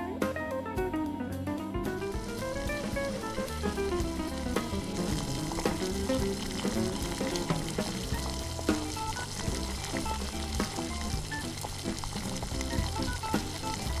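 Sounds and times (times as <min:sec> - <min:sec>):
background music with a beat: 0:00.0 - 0:14.0.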